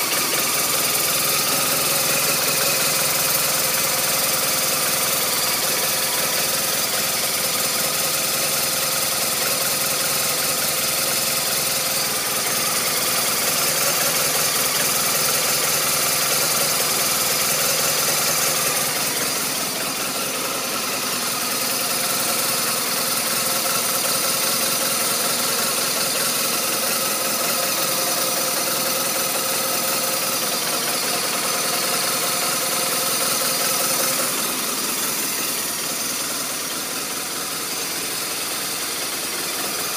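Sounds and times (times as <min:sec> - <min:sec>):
motorcycle engine idling roughly: 0:00.0 - 0:39.9.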